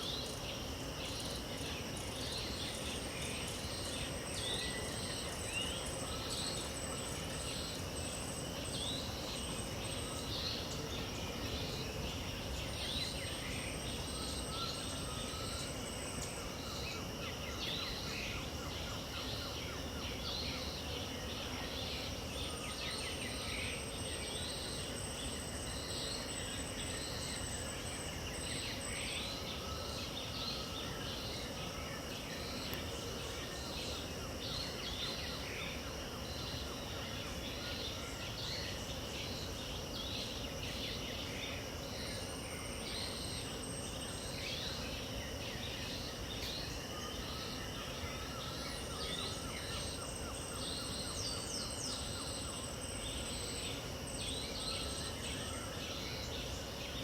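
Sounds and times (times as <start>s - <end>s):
constant hiss: 0.0s - 57.0s
high-pitched insect trills: 0.0s - 57.0s.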